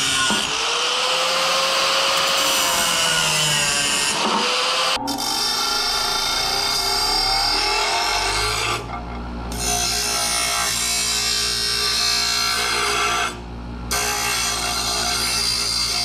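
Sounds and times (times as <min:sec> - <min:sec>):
grinder motor hum: 0:00.0 - 0:16.0
metal grinding on grinder wheel: 0:00.0 - 0:16.0.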